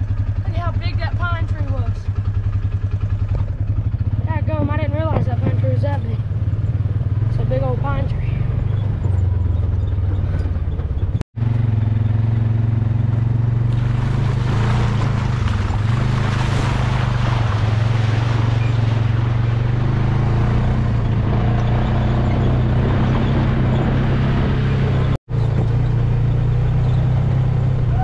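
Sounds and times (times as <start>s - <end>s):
utility vehicle engine running: 0.0s - 28.0s.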